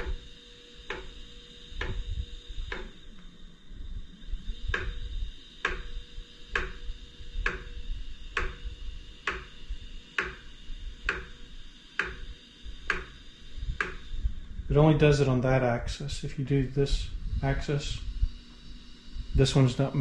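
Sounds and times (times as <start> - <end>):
high motor whine: 0.0 - 20.0.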